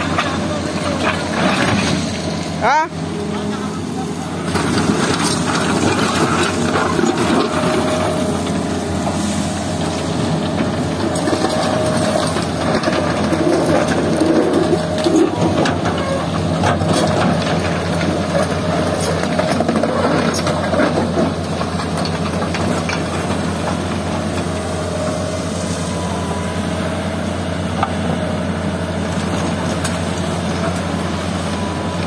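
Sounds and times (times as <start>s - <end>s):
excavator diesel engine: 0.0s - 32.0s.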